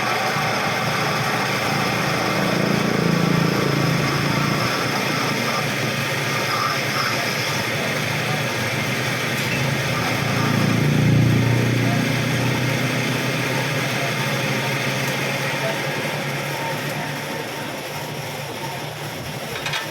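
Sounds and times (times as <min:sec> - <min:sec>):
motor humming: 0:00.0 - 0:19.9.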